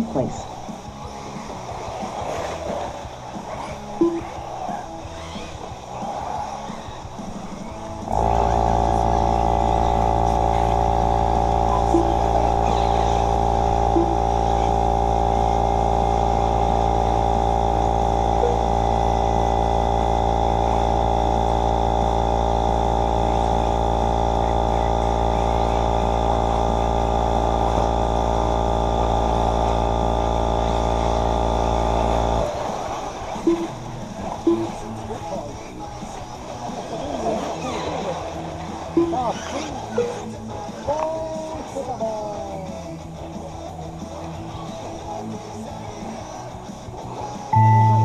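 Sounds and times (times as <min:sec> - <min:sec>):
electrical hum and buzz: 0:00.0 - 0:42.0, 0:42.8 - 0:48.0.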